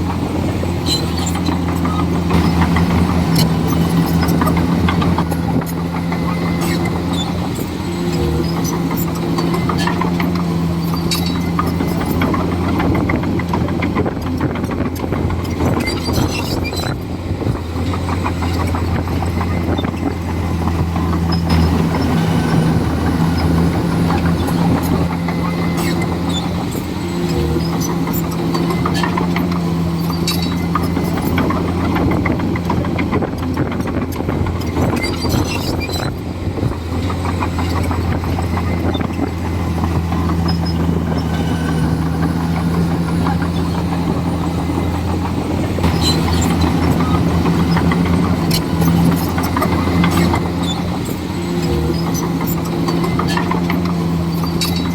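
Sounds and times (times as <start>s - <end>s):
bulldozer diesel engine running: 0.0s - 54.9s
clicks and clanks: 0.8s - 54.9s.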